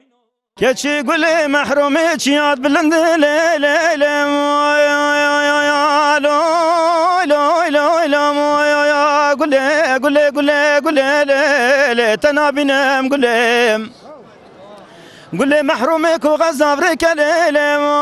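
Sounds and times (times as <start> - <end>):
man singing into a microphone: 0.0 - 13.9, 15.3 - 18.0.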